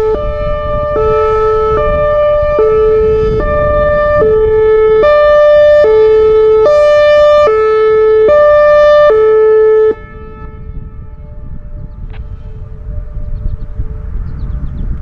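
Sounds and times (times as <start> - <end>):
two-tone warning siren: 0.0 - 15.0.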